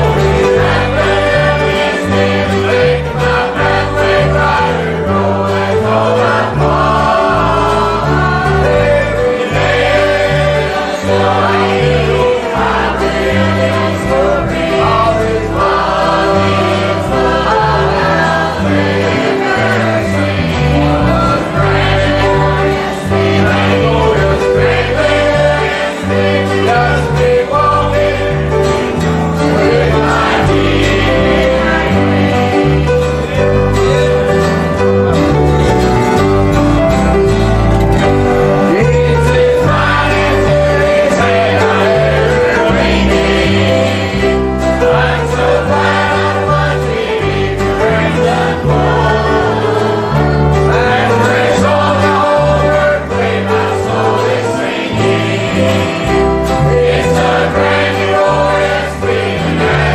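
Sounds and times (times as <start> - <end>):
bass line: 0.0 - 54.4
choir singing a hymn: 0.0 - 59.9
guitars: 0.0 - 59.9.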